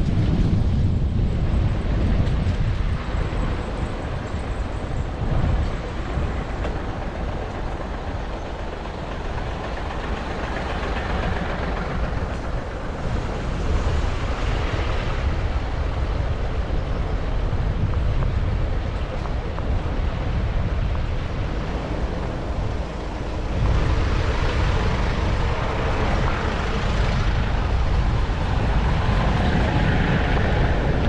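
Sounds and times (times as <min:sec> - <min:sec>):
road and vehicle noise: 0:00.0 - 0:31.0
wind rumbling over microphone: 0:00.0 - 0:31.0.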